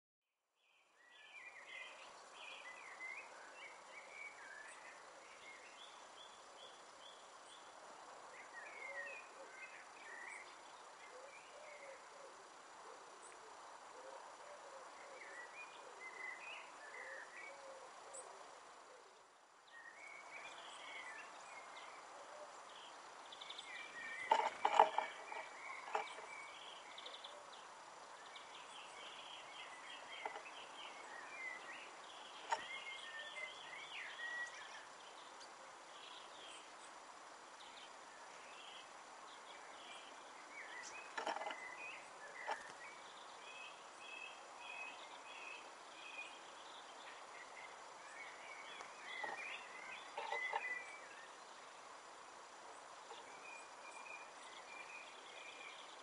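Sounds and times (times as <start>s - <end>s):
small birds chirping: 0.5s - 56.0s.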